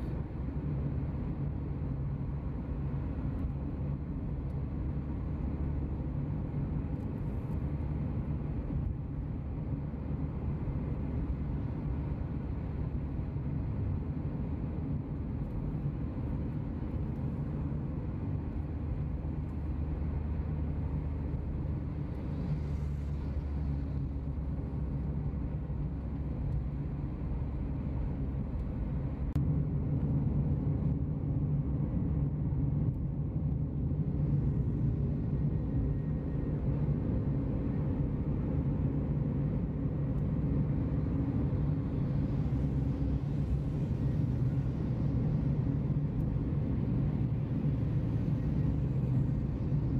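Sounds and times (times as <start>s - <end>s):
vehicle engine and road noise: 0.0s - 49.9s.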